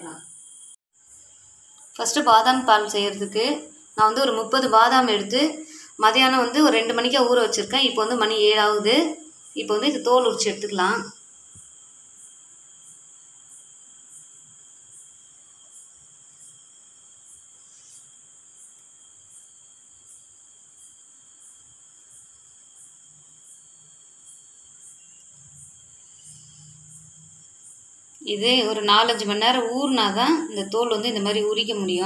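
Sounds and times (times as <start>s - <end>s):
insect chirping trill: 0.0s - 32.0s.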